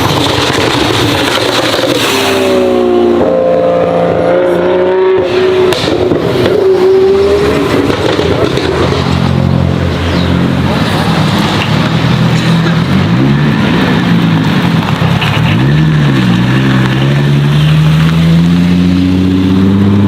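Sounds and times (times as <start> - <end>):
sports car engine accelerating: 1.7 - 20.0.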